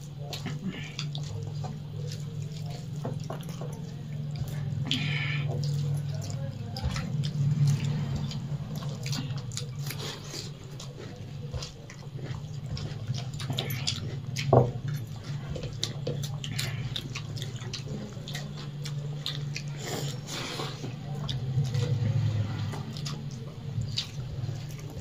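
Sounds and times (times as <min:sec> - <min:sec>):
low steady hum: 0:00.0 - 0:25.0
wet chewing and lip smacking: 0:00.0 - 0:25.0.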